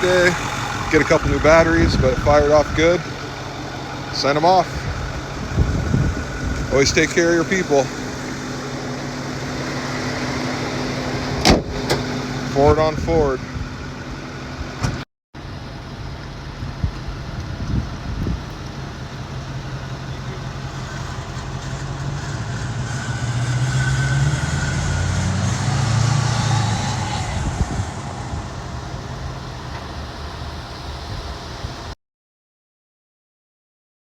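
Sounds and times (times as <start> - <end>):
diesel pickup engine driving off: 0.0 - 32.0.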